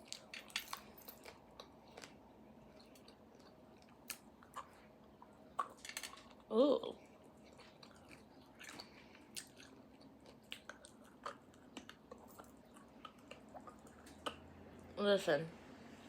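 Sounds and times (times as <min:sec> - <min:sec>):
chewing soft food: 0:00.0 - 0:15.0.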